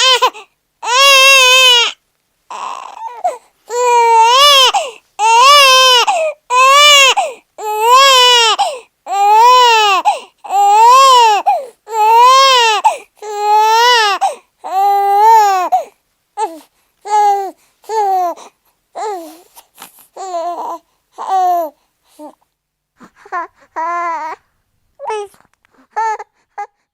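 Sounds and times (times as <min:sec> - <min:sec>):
newborn baby crying: 0:00.0 - 0:22.4, 0:23.0 - 0:26.8.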